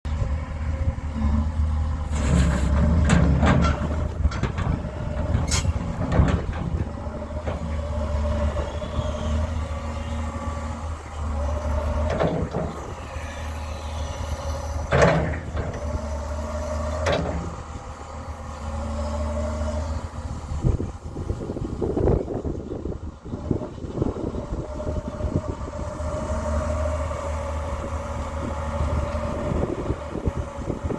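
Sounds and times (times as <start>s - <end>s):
diesel engine running: 0.0s - 30.9s
hydraulic whine: 0.1s - 30.9s.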